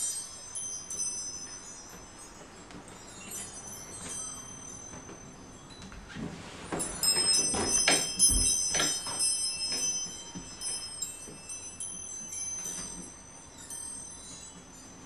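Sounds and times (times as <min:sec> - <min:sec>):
small high-pitched bells ringing: 0:00.0 - 0:15.0.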